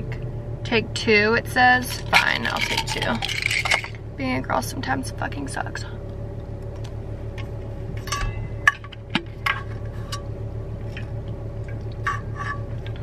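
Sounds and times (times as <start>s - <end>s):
low car hum: 0.0s - 13.0s.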